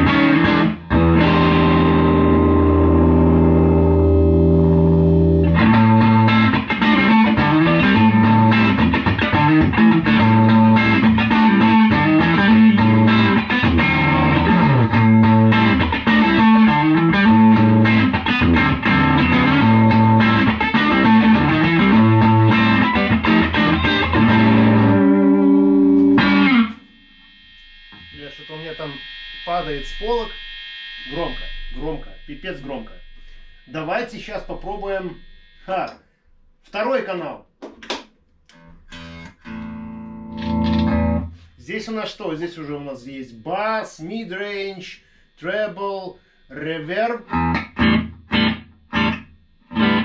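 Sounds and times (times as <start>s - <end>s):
loud electric guitar riff: 0.0s - 35.9s, 38.5s - 41.6s, 44.4s - 50.0s.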